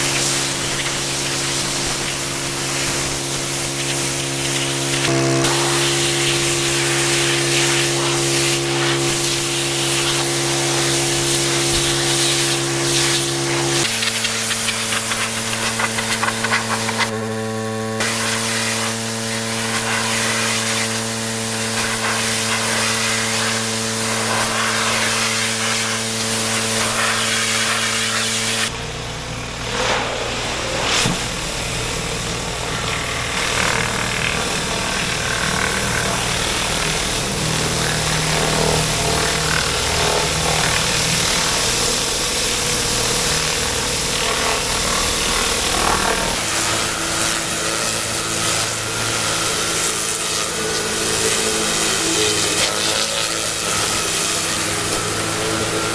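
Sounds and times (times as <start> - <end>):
water jet hissing: 0.0 - 17.2, 18.0 - 55.9
pressure washer motor humming: 0.0 - 55.9.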